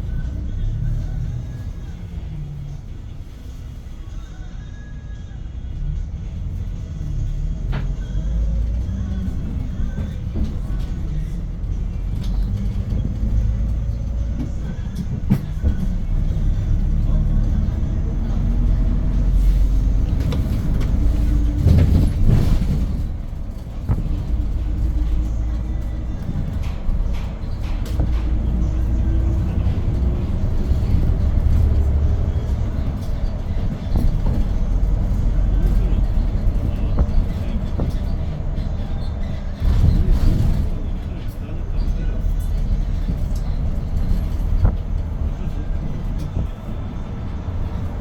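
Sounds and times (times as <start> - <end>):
bus engine drone: 0.0 - 48.0
road noise: 0.0 - 48.0.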